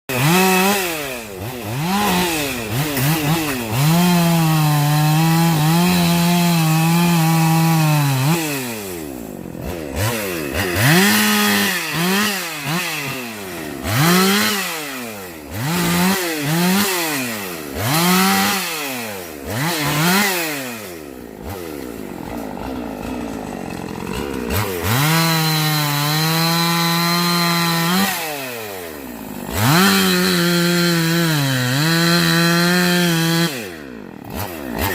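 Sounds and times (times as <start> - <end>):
chainsaw revving and cutting: 0.1 - 34.9.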